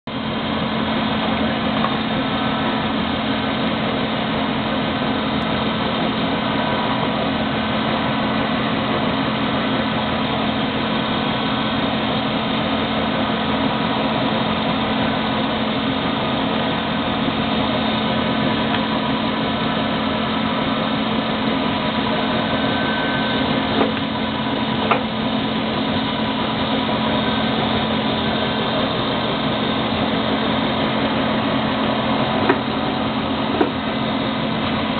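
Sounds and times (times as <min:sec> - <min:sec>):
drilling machine hum and whir: 0:00.1 - 0:34.9.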